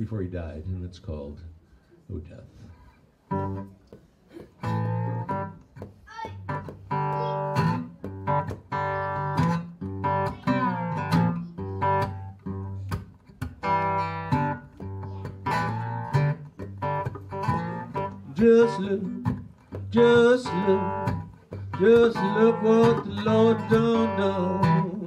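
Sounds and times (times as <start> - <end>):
acoustic guitar blues picking: 3.3 - 3.7, 4.6 - 25.0.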